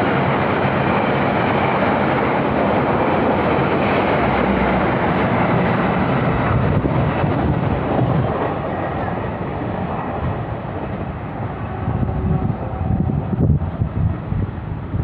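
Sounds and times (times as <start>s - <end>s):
low locomotive rumble: 0.0s - 15.0s
train wheels rushing on rails: 0.0s - 15.0s.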